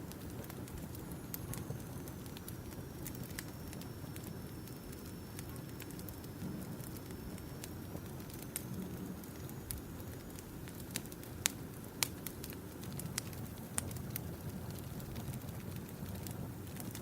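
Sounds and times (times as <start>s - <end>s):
campfire popping and snapping: 0.0s - 17.0s.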